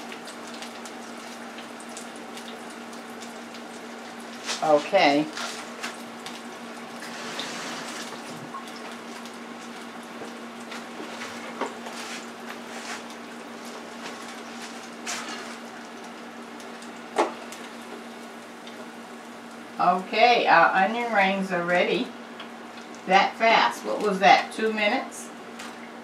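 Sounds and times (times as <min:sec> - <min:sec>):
oil bubbling and crackling: 0:00.0 - 0:19.8, 0:21.8 - 0:26.0
deep fryer hum: 0:00.0 - 0:26.0.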